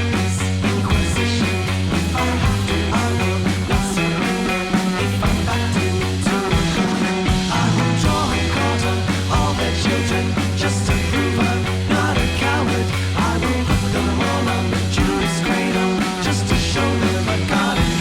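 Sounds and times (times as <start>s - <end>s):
rock music with bass and drums: 0.0s - 18.0s.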